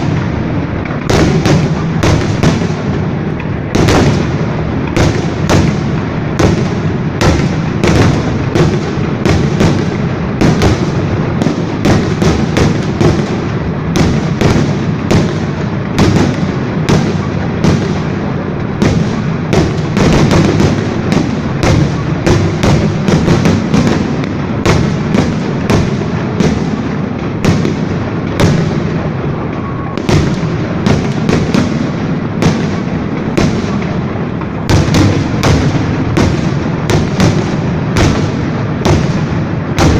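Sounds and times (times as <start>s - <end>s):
fireworks sharp bangs: 0.0s - 39.9s
rumble of echoing booms: 0.0s - 39.9s.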